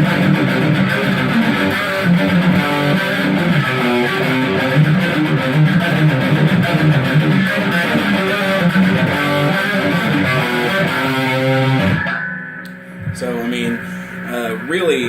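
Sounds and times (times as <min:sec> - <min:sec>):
distorted electric guitar playing: 0:00.0 - 0:15.0.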